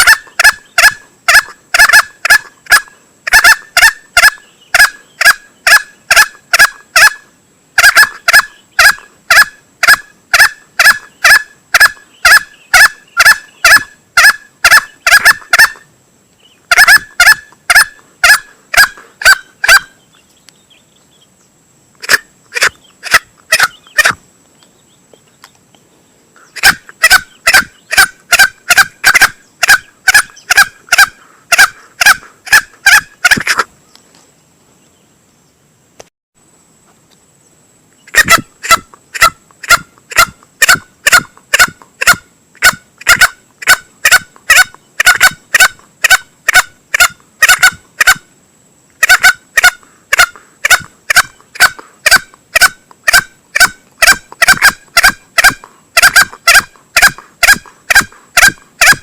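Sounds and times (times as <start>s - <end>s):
junglefowl calling: 0.0s - 15.9s, 16.5s - 20.2s, 22.0s - 24.2s, 26.4s - 33.7s, 38.0s - 48.3s, 49.0s - 59.0s.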